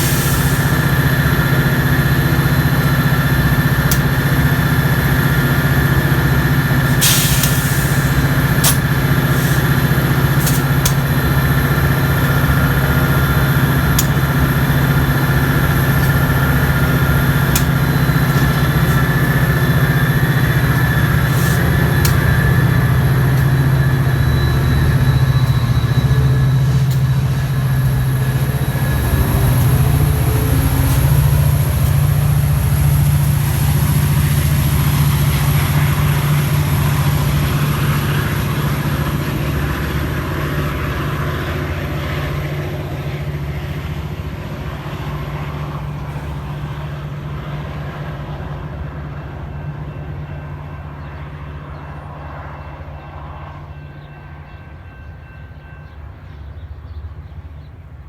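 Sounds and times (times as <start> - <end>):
diesel train engine drone: 0.0 - 58.0
rail and wheel noise: 0.0 - 58.0.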